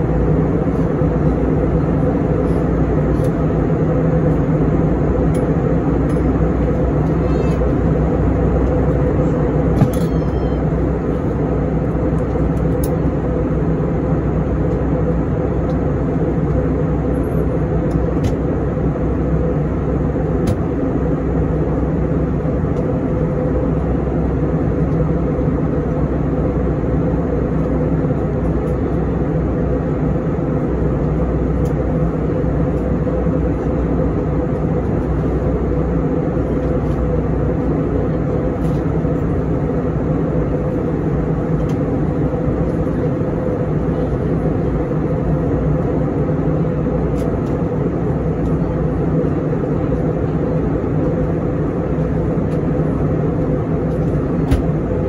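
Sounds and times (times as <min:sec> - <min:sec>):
air rushing along fuselage: 0:00.0 - 0:55.0
jet engine drone: 0:00.0 - 0:55.0
steady hum tones: 0:00.0 - 0:55.0.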